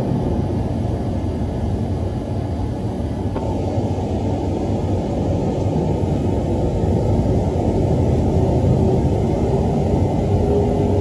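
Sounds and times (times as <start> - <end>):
muffled jet engine noise: 0.0 - 11.0.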